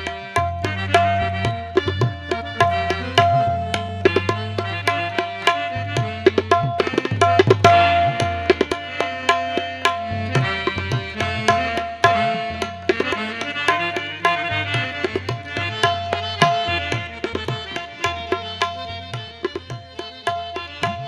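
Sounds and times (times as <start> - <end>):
hand drums fast rhythm: 0.0 - 21.0
harmonium melody: 0.0 - 21.0.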